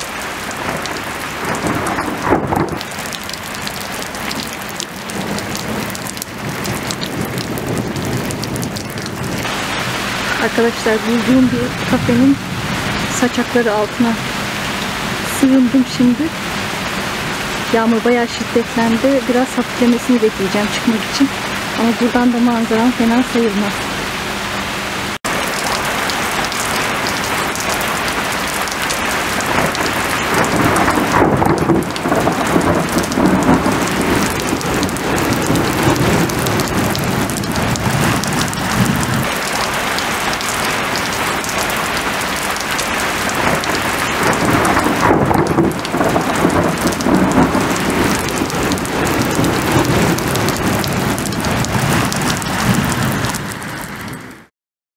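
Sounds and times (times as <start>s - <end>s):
thunder rumbling: 0.0s - 24.1s, 25.0s - 54.4s
heavy rain pouring: 0.0s - 54.5s.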